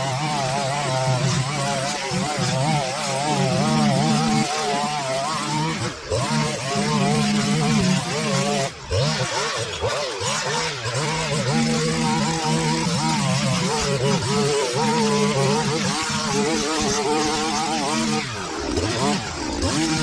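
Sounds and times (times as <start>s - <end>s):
petrol line trimmer engine: 0.0s - 20.0s.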